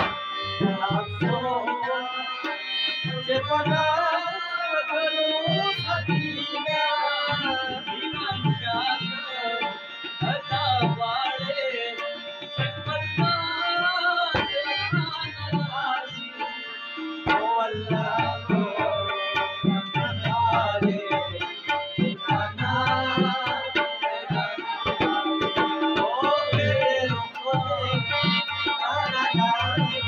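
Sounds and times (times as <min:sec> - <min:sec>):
harmonium: 0:00.0 - 0:30.0
men singing: 0:00.0 - 0:30.0
rabab: 0:00.0 - 0:30.0
tabla drumming: 0:00.0 - 0:30.0.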